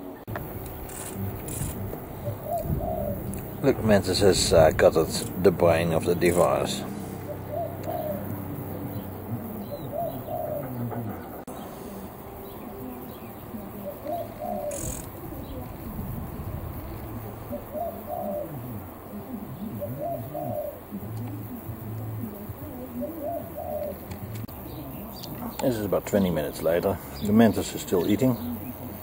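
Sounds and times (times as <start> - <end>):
bird cooing: 0.0 - 29.0.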